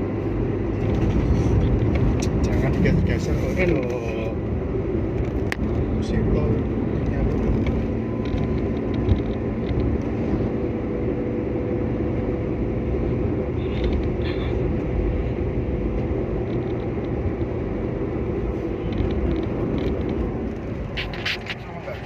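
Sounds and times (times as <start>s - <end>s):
car cabin road and engine noise: 0.0s - 22.0s.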